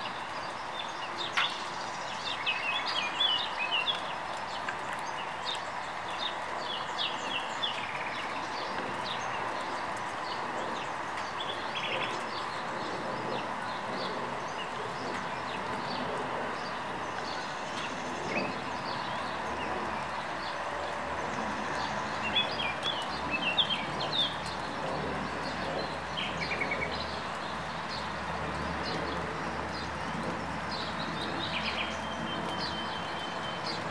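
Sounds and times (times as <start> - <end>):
rain hiss: 0.0 - 33.9.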